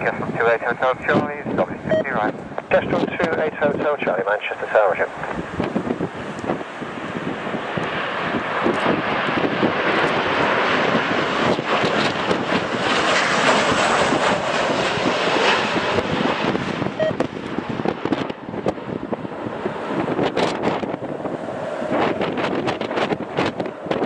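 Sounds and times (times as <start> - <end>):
jet airliner engines passing: 0.0 - 24.0
wind buffeting microphone: 0.0 - 24.0.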